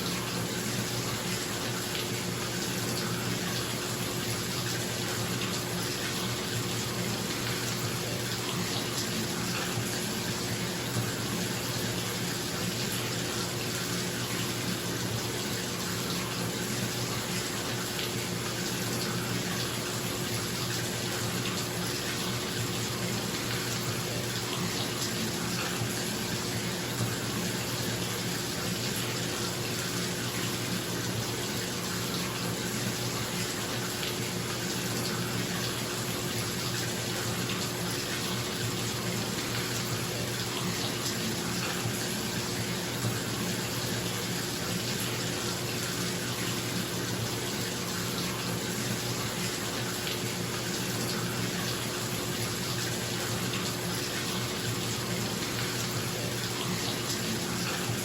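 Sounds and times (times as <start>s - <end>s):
water pouring into bathtub: 0.0s - 58.0s.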